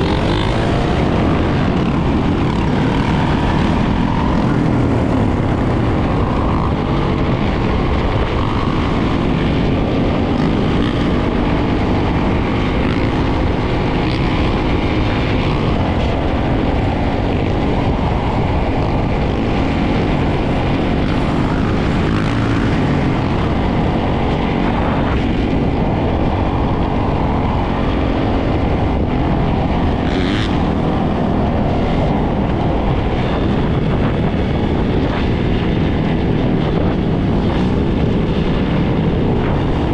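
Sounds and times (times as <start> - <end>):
many dirt bike engines droning: 0.0 - 39.9.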